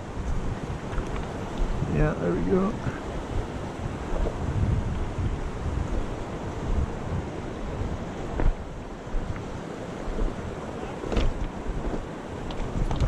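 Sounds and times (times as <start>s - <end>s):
river water rushing: 0.0s - 13.0s
wind buffeting microphone: 0.0s - 13.0s.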